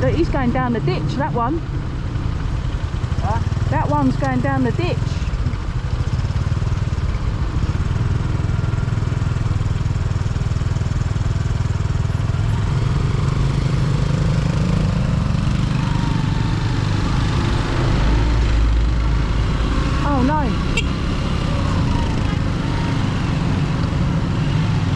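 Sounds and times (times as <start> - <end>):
motorcycle engine running: 0.0 - 24.9
road and wind noise: 0.0 - 24.9.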